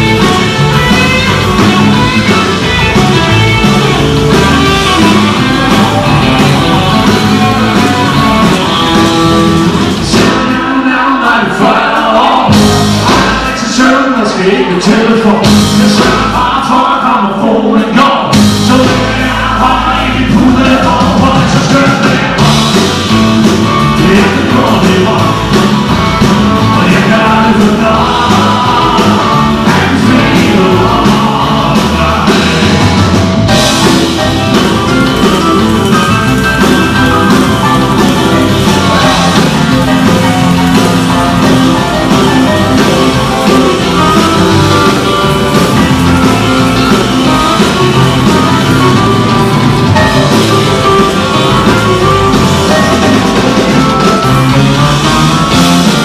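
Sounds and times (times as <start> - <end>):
live rock band playing: 0.0 - 56.0
person singing: 0.0 - 56.0.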